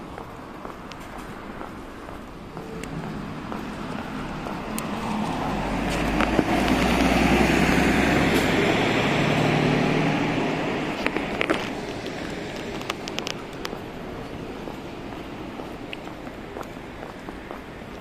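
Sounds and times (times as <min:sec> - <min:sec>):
bus diesel engine driving past: 0:00.0 - 0:18.0.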